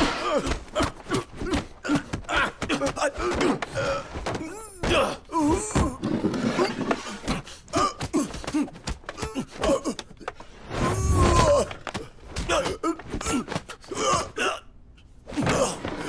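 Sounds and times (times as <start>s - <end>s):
fighters grunting and groaning: 0.0s - 16.0s.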